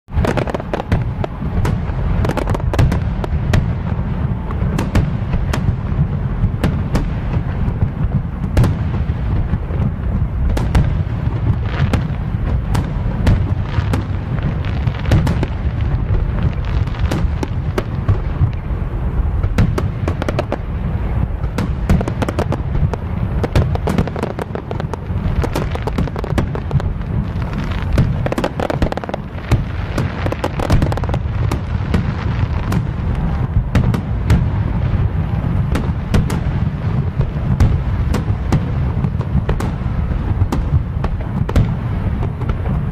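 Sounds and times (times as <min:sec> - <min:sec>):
fireworks booming and cracking: 0:00.1 - 0:42.9.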